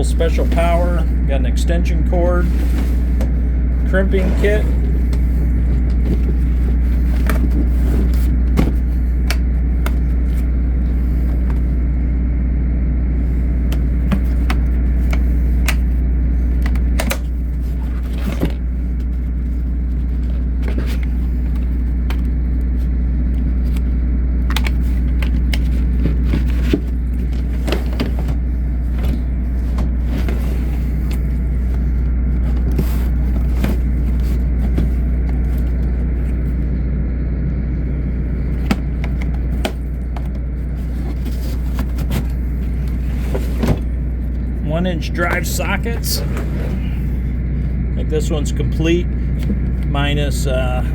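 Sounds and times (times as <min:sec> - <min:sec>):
low mechanical drone: 0:00.0 - 0:50.9.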